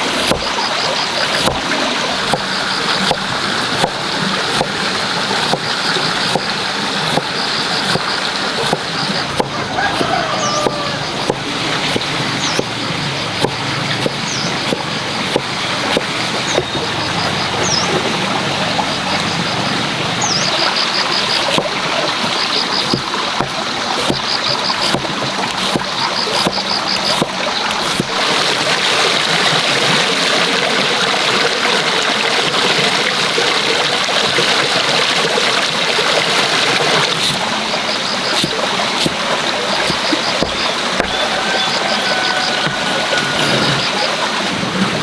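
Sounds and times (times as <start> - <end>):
clicks and splashes: 0.0 - 45.0
rushing water-like noise: 0.0 - 45.0.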